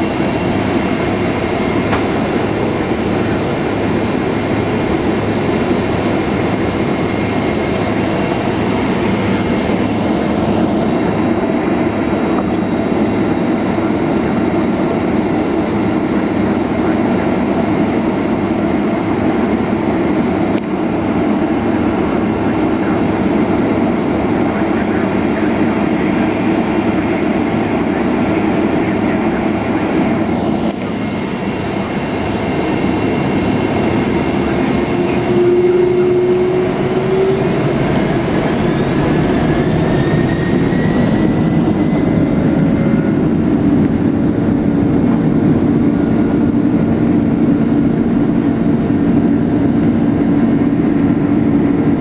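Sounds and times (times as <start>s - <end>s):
jet engine cabin rumble: 0.0s - 52.0s.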